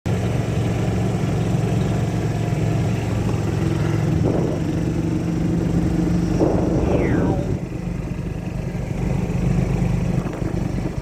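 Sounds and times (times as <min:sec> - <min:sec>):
golf cart engine running: 0:00.1 - 0:11.0.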